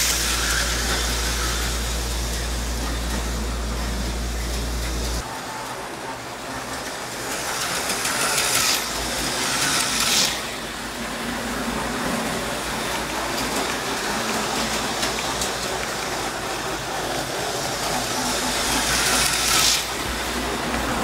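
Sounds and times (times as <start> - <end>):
hissing whir: 0.0 - 21.0
model train whirring: 0.0 - 21.0.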